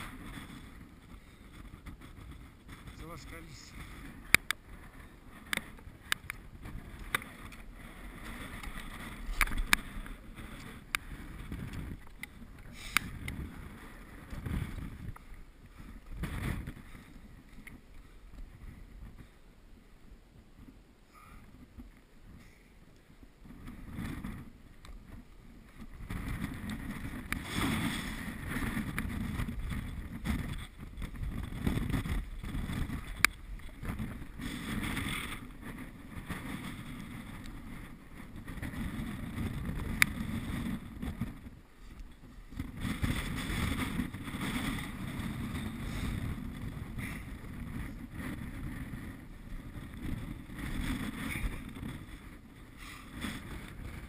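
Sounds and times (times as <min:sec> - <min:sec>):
gusty wind on microphone: 0:00.0 - 0:54.0.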